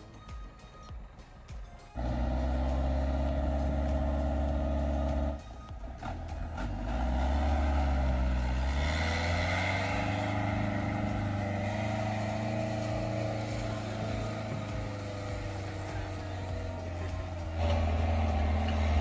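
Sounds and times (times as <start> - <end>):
truck engine pulling away: 2.0 - 19.0.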